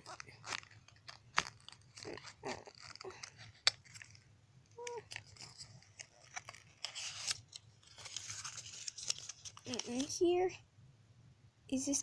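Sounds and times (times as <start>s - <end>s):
toy boxes and pieces handled: 0.0s - 10.5s.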